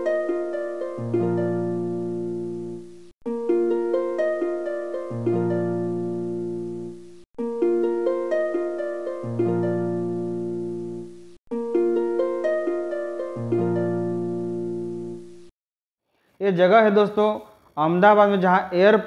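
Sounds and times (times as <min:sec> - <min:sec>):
plucked harp-like notes: 0:00.0 - 0:15.5.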